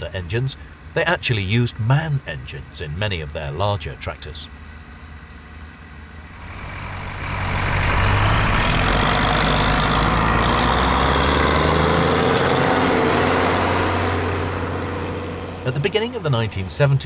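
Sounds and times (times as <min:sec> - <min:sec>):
tractor diesel engine droning: 0:00.0 - 0:17.0.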